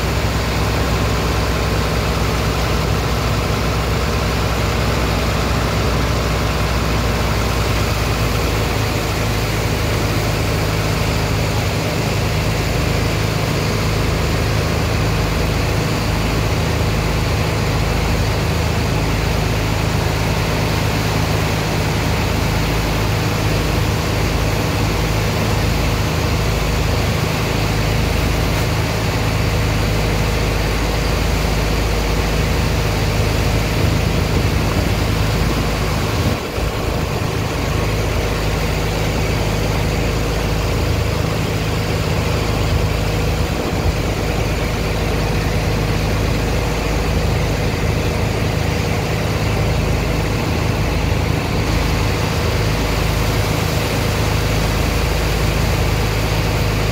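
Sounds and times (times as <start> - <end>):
pump engine droning: 0.0 - 56.9
water jets spraying into wet sand: 0.0 - 56.9.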